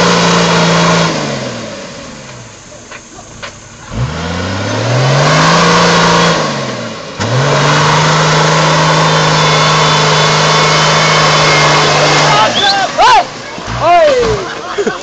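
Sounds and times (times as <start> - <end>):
vehicle engine revving hard: 0.0 - 2.3, 3.7 - 14.6.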